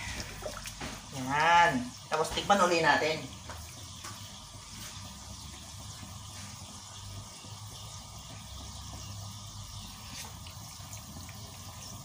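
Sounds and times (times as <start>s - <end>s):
sauce bubbling in a wok: 0.0s - 12.0s
spatula stirring: 0.0s - 12.0s.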